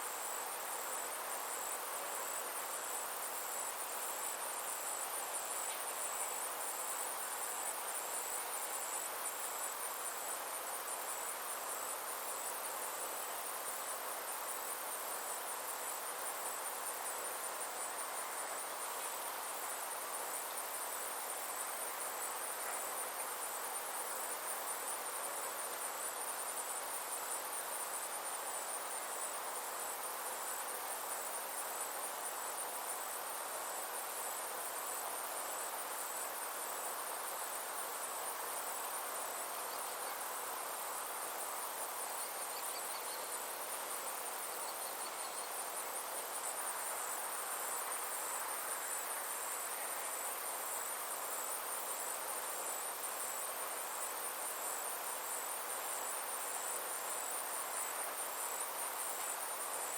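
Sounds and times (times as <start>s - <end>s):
constant hiss: 0.0s - 59.9s
insects trilling: 0.0s - 59.9s.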